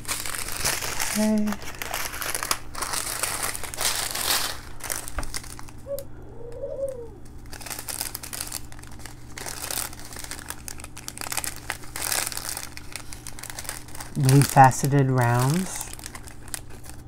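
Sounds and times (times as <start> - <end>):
plastic bags crinkling: 0.0 - 6.0, 7.1 - 17.0.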